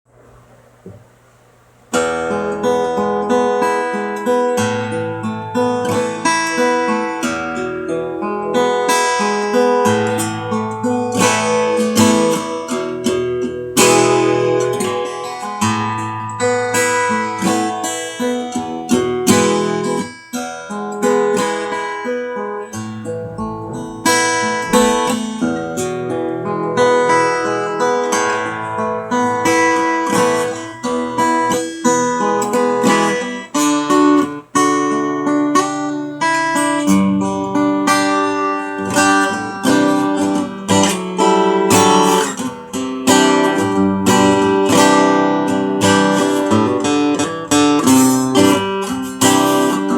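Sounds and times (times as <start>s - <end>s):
acoustic guitar strumming: 1.9s - 49.9s.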